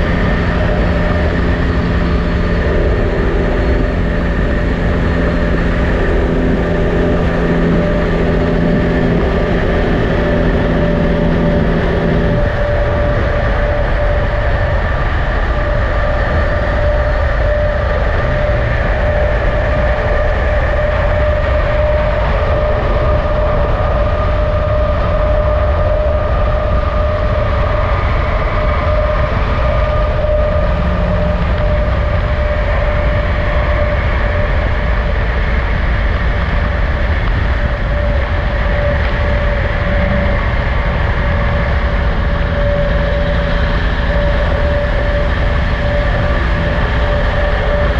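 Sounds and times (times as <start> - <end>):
mid-pitched whine: 0.0 - 47.9
vehicle road noise rumble: 0.0 - 47.9.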